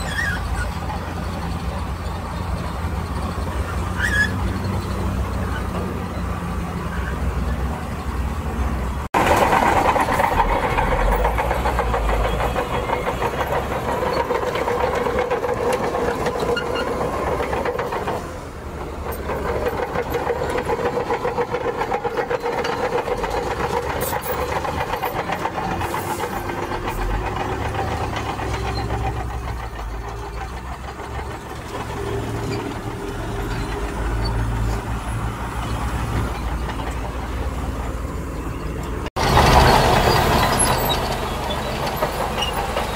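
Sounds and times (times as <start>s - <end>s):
diesel engine under load: 0.0s - 42.9s.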